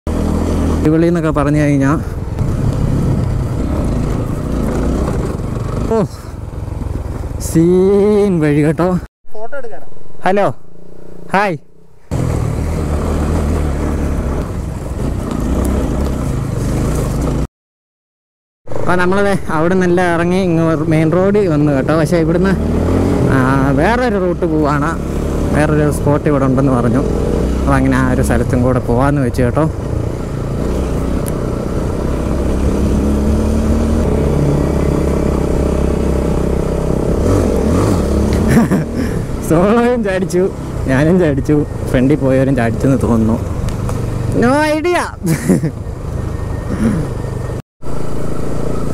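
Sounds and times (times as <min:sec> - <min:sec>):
motorcycle engine running: 0:00.1 - 0:09.0, 0:12.1 - 0:17.5, 0:18.9 - 0:48.9.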